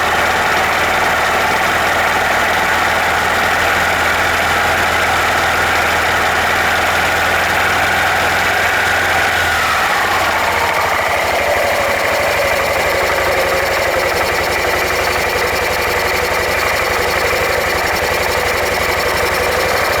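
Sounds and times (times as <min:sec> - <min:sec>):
fast even drive rattle: 0:00.0 - 0:20.0
scooter engine running: 0:00.0 - 0:20.0.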